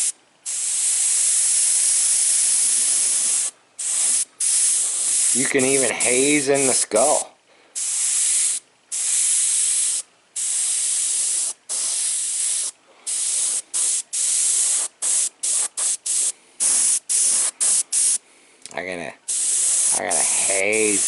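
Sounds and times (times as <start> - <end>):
airbrush spraying hiss: 0.0 - 18.2, 19.3 - 21.0.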